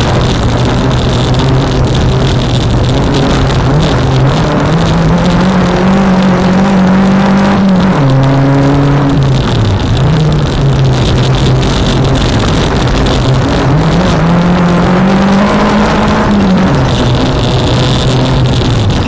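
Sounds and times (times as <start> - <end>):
racing car engine revving: 0.0 - 19.0
tyre and road noise on dirt: 0.0 - 19.0.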